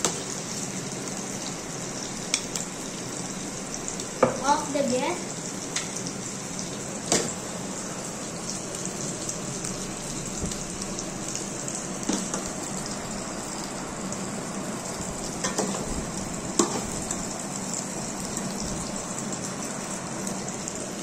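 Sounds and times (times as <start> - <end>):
oil sizzling in a pan: 0.0 - 21.0.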